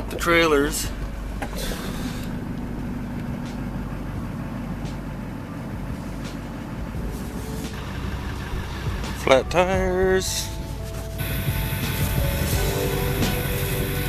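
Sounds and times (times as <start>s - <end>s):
vehicle engine running at low revs: 0.3s - 14.0s.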